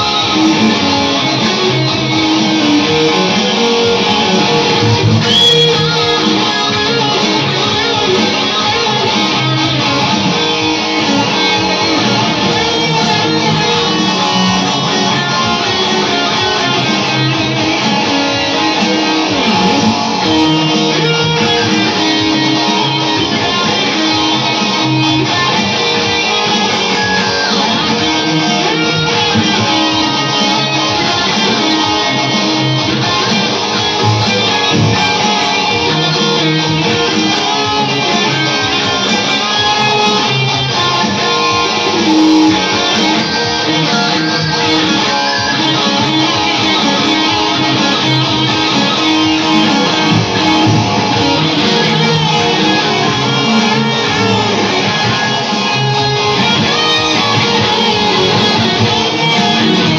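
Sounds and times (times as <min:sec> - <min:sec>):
electric guitar rock piece: 0:00.0 - 0:59.9.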